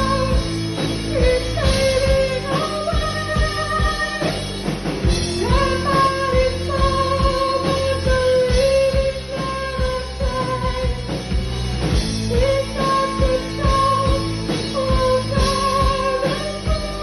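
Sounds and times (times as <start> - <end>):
deep bass: 0.0 - 17.0
rock band playing live: 0.0 - 17.0.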